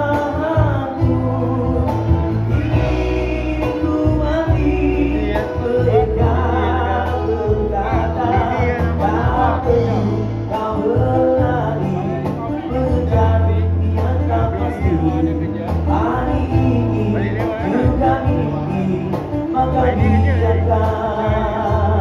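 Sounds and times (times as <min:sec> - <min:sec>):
electric bass: 0:00.0 - 0:22.0
guitar: 0:00.0 - 0:22.0
man singing into microphone: 0:00.0 - 0:22.0.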